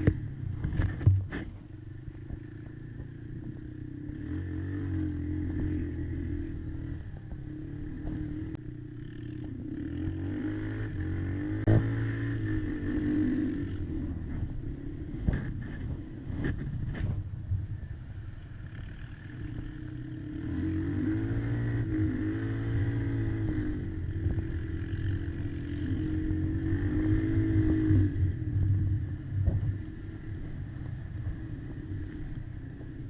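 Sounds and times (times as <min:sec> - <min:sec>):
quad bike engine revving: 0:02.1 - 0:16.8, 0:18.6 - 0:33.0.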